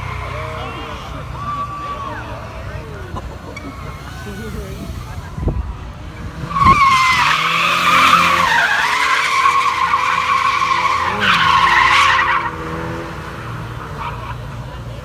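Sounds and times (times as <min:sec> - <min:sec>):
car tyres squealing: 0:00.0 - 0:15.0.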